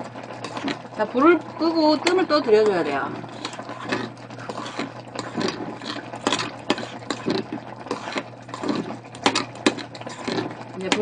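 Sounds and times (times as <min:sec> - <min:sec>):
metal spoon scraping a pot: 0:00.4 - 0:00.8, 0:01.6 - 0:11.0.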